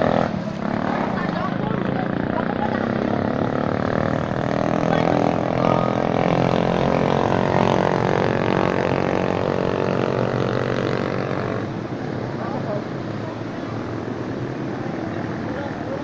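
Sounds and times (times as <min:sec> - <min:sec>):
engine droning hum: 0:00.0 - 0:16.0.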